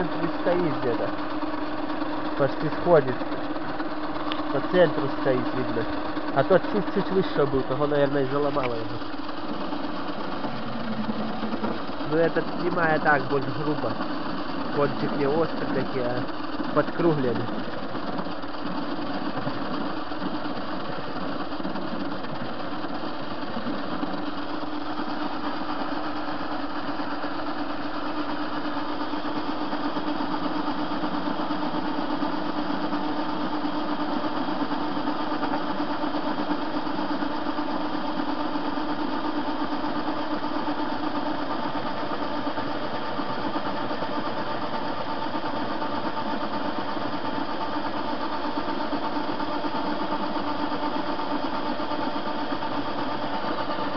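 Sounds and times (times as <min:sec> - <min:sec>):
metal lathe running: 0:00.0 - 0:53.9.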